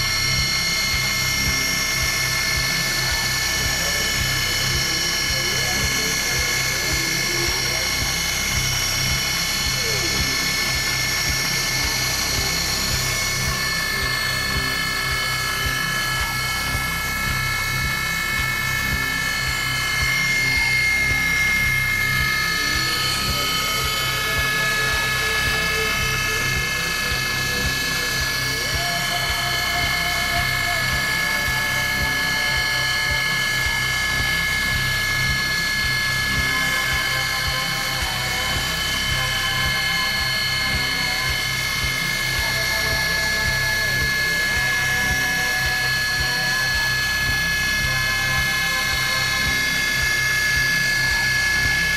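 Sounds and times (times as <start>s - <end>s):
mill spindle whine: 0.0s - 51.9s
pulsing low hum: 0.0s - 51.9s
rhythmic chatter with ticks: 0.0s - 51.9s
rising machine tone: 0.0s - 51.9s.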